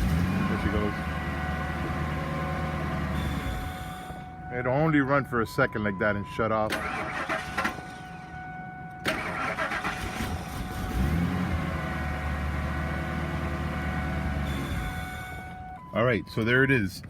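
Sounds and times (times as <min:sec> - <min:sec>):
truck engine cranking and running: 0:00.0 - 0:04.5, 0:06.5 - 0:17.0.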